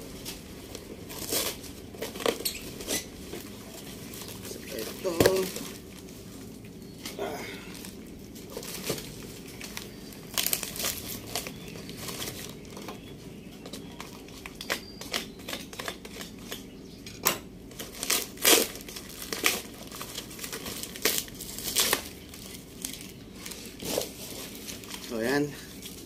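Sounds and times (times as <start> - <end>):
cardboard crinkling and tearing: 0.0 - 13.1, 17.7 - 26.0.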